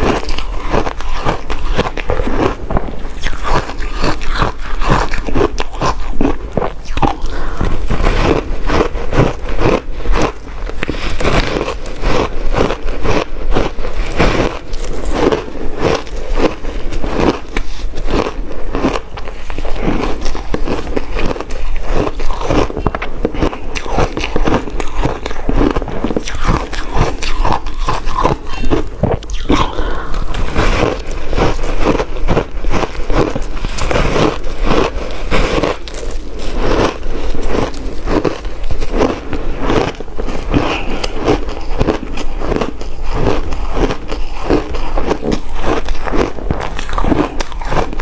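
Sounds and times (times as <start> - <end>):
ice being bitten and chewed: 0.0 - 48.0.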